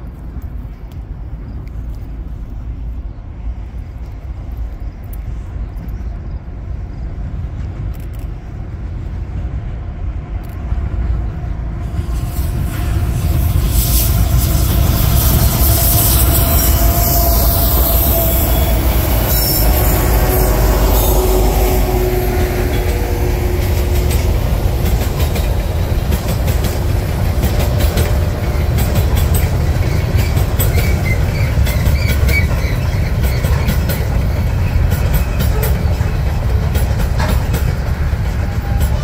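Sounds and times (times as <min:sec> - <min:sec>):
freight train rumbling: 0:00.0 - 0:39.0
train wheels clicking and clattering: 0:03.7 - 0:39.0.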